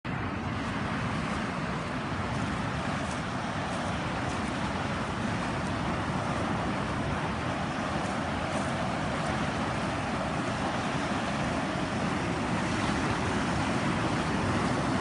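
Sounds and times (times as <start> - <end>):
water rushing: 0.1 - 15.0.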